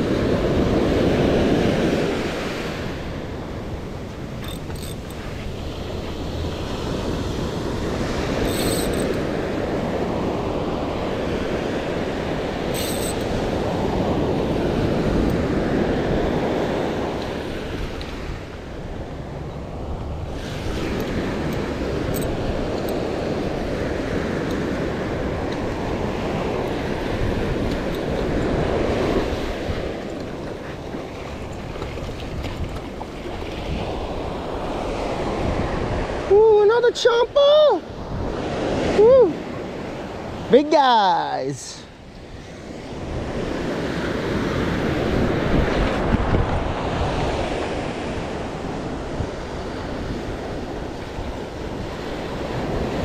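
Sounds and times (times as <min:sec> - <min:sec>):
ocean surf breaking: 0:00.0 - 0:53.0.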